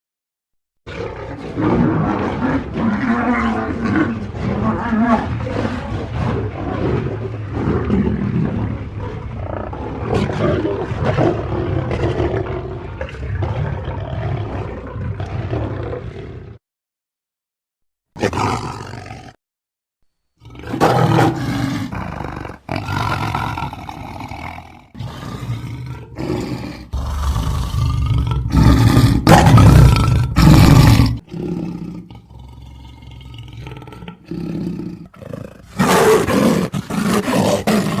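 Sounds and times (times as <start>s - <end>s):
creature roars and growls: 0.9s - 16.6s, 20.4s - 38.0s.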